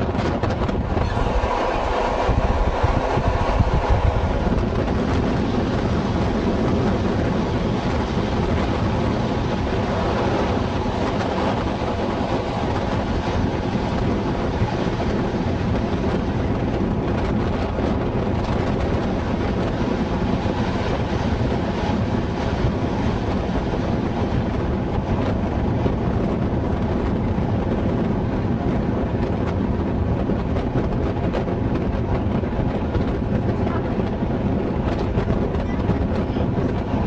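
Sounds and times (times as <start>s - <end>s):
train wheels on rail: 0.0s - 37.0s
wind noise on microphone: 0.0s - 37.0s.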